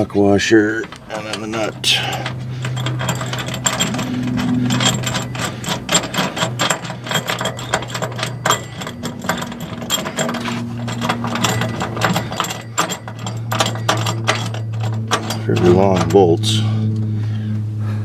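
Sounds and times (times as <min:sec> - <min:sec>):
ratchet wrench clicking: 0:00.8 - 0:16.4
low hum: 0:00.8 - 0:17.6.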